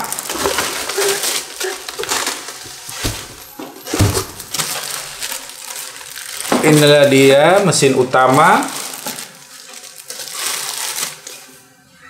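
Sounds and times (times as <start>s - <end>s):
cardboard packaging crackling: 0.0s - 11.7s.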